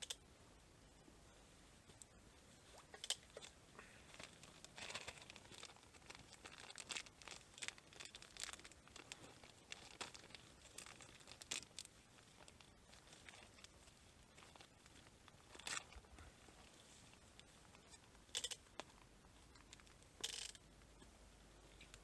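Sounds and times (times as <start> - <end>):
faint crinkling and crackling: 0.0 - 22.0.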